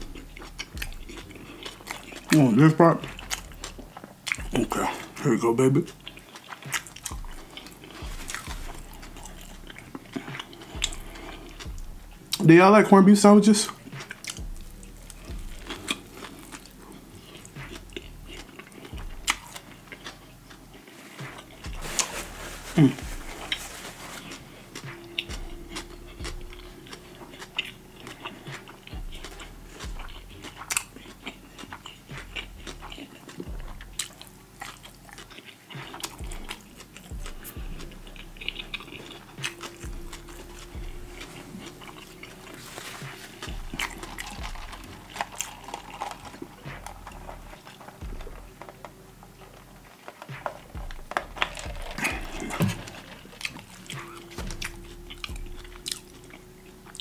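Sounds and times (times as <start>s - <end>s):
man chewing and lip-smacking: 0.0s - 12.5s, 13.6s - 57.0s.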